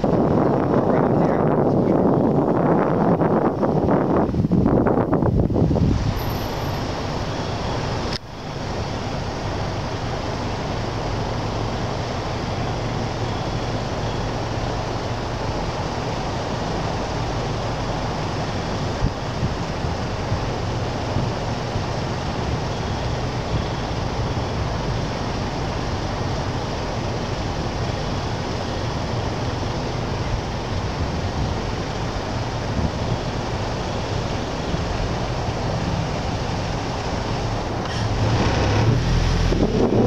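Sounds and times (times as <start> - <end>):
car driving slowly: 0.0 - 40.0
wind rushing past microphone: 0.0 - 40.0.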